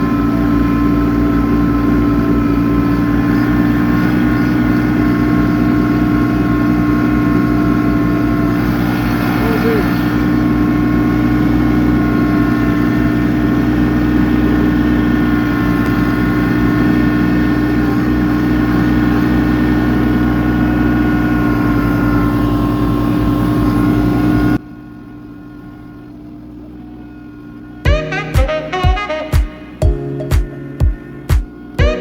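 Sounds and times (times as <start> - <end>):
tractor diesel engine hum: 0.0 - 32.0.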